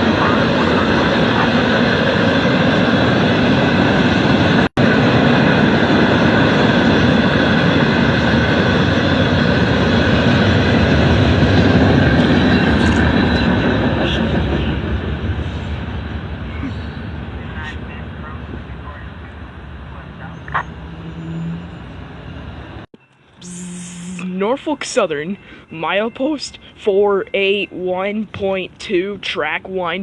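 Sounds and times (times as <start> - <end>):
freight train rolling past: 0.0 - 22.9, 23.9 - 30.0.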